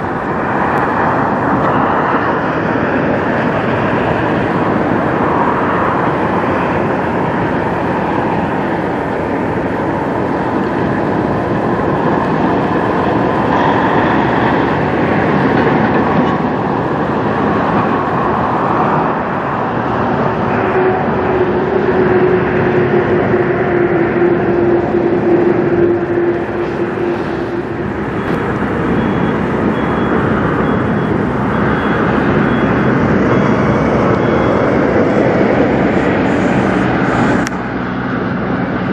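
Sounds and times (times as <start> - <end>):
truck diesel engine running: 0.0 - 38.9
tyre and road noise: 0.0 - 38.9.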